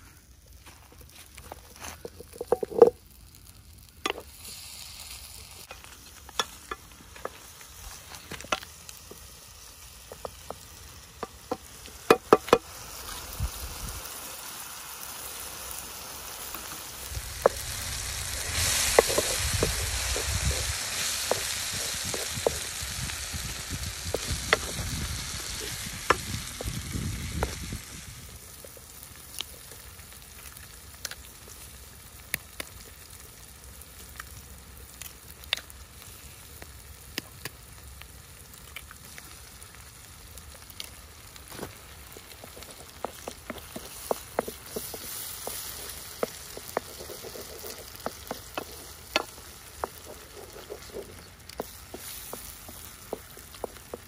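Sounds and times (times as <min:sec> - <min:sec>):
vegetables sizzling in a pan: 0:00.0 - 0:54.0.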